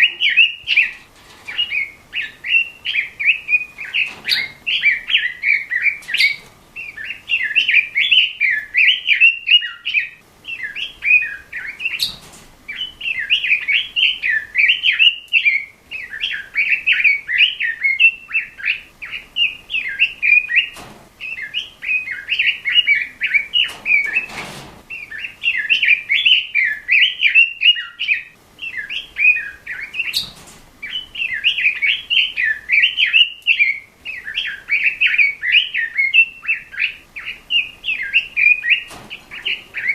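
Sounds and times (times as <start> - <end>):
bird singing warbling song: 0.0 - 39.9.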